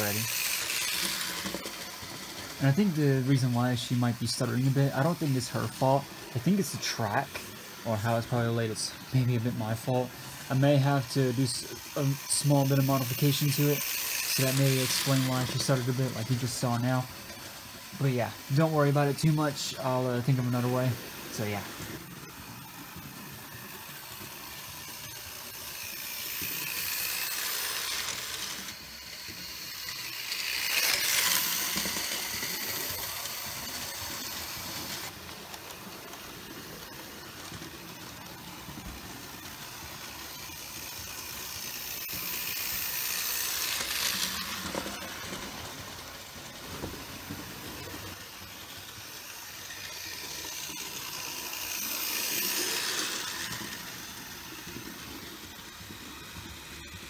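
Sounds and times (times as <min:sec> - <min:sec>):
model train wheels rattling: 0:00.0 - 0:57.0.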